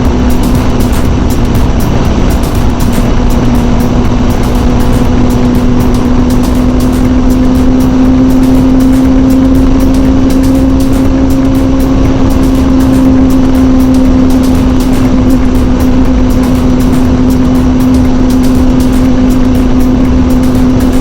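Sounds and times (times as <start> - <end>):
motorcycle engine at high revs: 0.0 - 21.0
wind noise on microphone: 0.0 - 21.0.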